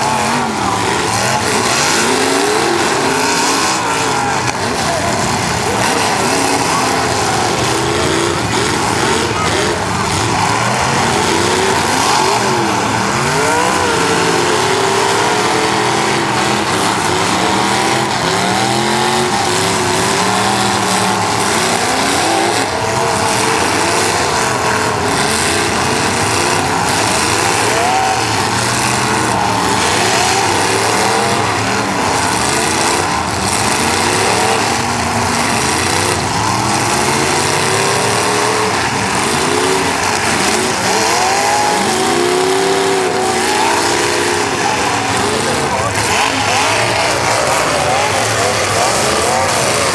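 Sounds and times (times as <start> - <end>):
car engines revving: 0.0 - 49.9
cars crashing together: 0.0 - 49.9
tyres spinning: 0.0 - 49.9.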